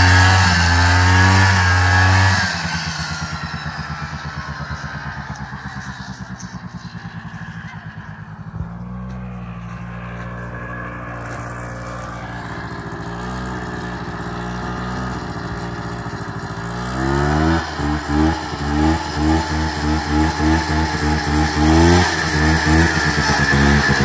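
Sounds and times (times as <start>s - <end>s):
lawnmower engine running and revving: 0.0s - 24.0s.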